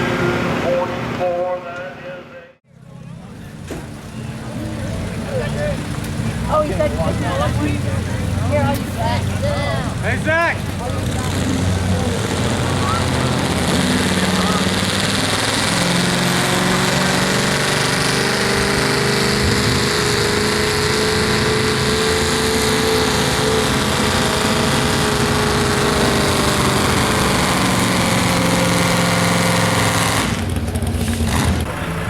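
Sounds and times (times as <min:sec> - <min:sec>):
truck engine running at high revs: 0:02.7 - 0:32.0.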